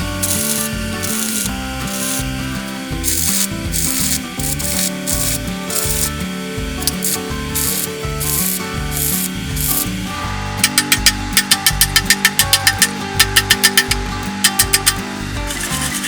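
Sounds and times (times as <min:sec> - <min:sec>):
background music with pulsing bass: 0:00.0 - 0:16.0
rhythmic rubbing strokes: 0:00.0 - 0:16.0.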